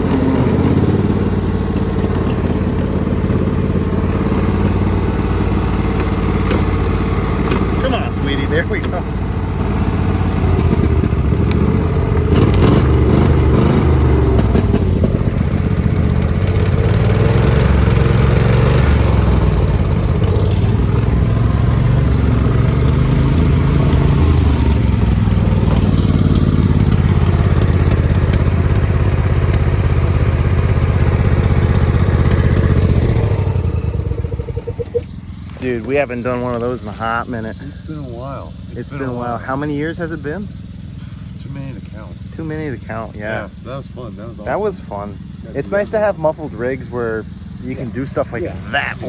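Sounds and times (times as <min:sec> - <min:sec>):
riding lawn mower engine: 0:00.0 - 0:49.0.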